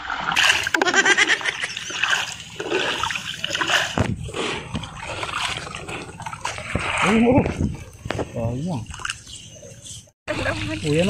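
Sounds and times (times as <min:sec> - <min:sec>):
water and wet sand sloshing: 0:00.0 - 0:11.0.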